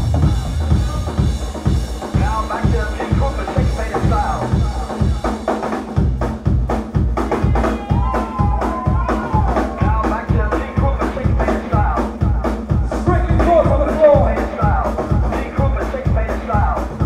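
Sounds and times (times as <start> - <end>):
kick drum beat: 0.0 - 17.0
live band playing: 0.0 - 17.0.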